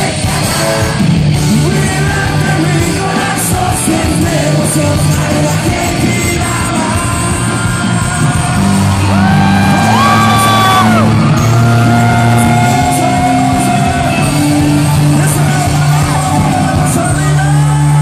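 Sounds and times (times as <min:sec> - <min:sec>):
man singing lead vocal: 0:00.0 - 0:11.0, 0:11.8 - 0:18.0
drums: 0:00.0 - 0:18.0
electric guitar: 0:00.0 - 0:18.0
keyboard: 0:00.0 - 0:18.0.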